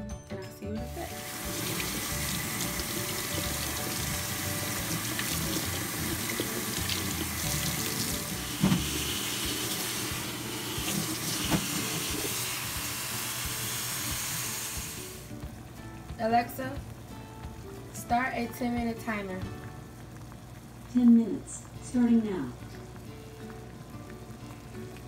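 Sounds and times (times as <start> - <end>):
faucet running: 0.9 - 25.0.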